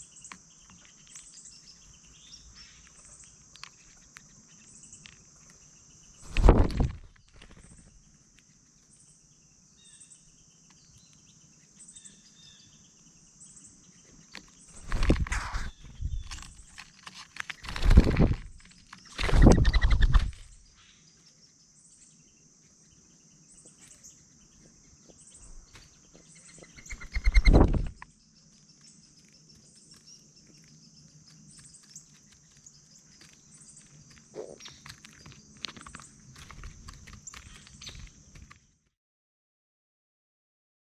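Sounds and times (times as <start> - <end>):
insect buzz: 0.0 - 38.7.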